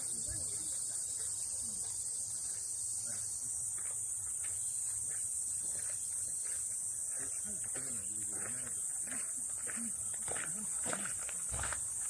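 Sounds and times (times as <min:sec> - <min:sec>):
faint distant voices: 0:00.0 - 0:12.0
high-pitched insect chorus: 0:00.0 - 0:12.0.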